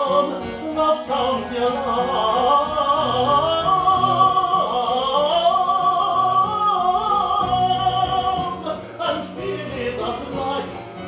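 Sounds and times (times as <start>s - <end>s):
harpsichord: 0.0s - 11.0s
tenor voice singing: 0.0s - 11.0s.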